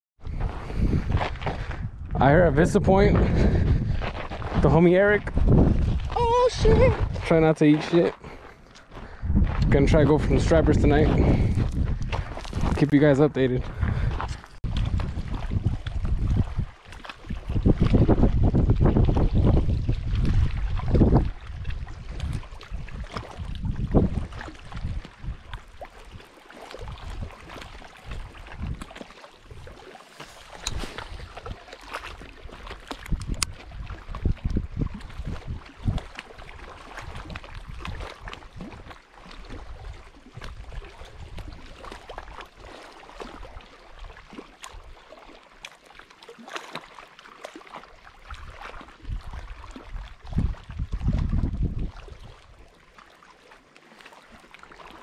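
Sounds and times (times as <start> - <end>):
wind buffeting microphone: 0.2 - 25.9, 26.8 - 43.6, 48.3 - 52.7
small waves lapping on rocks: 4.1 - 9.0, 10.0 - 55.0.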